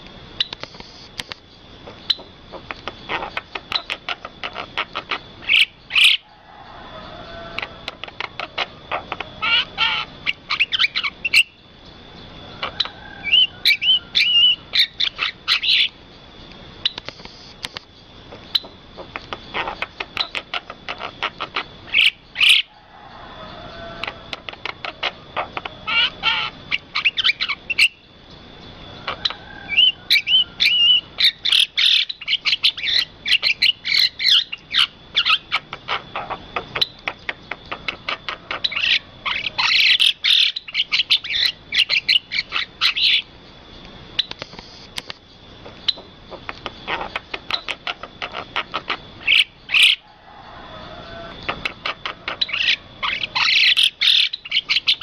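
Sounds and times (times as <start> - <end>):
birds chirping: 0.2 - 55.0.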